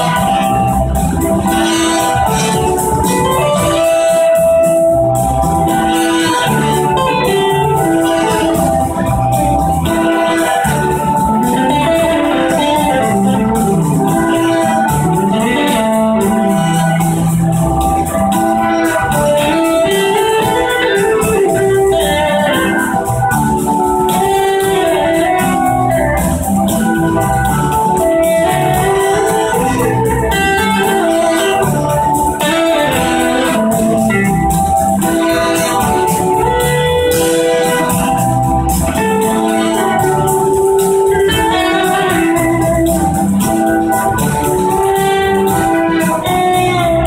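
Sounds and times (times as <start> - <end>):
blues-rock band playing: 0.0 - 47.0.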